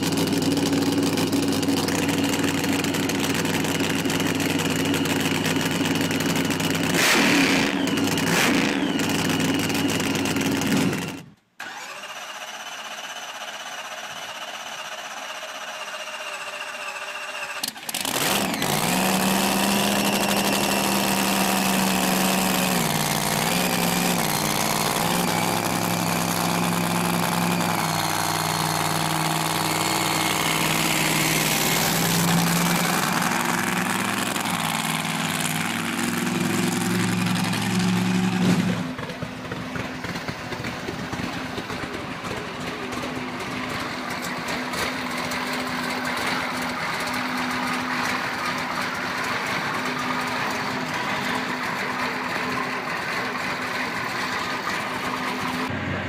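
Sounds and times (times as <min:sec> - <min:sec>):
turbocharged engine idling: 0:00.0 - 0:11.9, 0:18.0 - 0:55.8
supercharged engine lumpy idle: 0:00.0 - 0:55.8.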